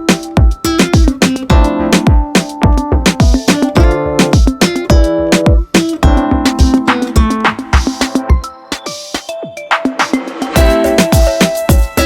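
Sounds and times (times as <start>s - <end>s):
afrobeat-style background music: 0.0s - 12.0s.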